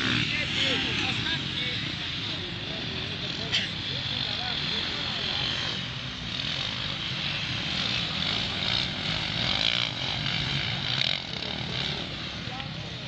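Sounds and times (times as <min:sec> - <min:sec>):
distant motorcycle engines buzzing: 0:00.0 - 0:13.0.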